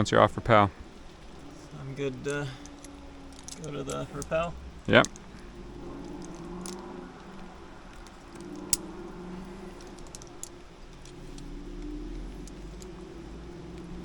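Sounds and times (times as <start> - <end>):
metal climbing gear clinking: 0.8 - 14.0.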